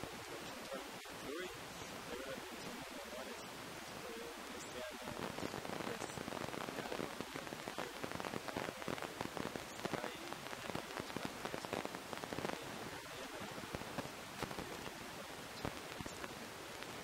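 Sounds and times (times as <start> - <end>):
dense crackling noise: 0.0 - 17.0
faint man's voice: 0.0 - 17.0.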